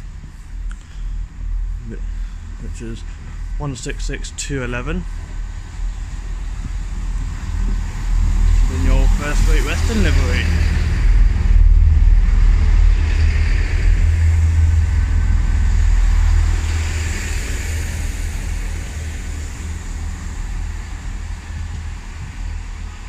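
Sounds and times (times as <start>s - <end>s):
diesel train arriving: 0.0s - 23.0s.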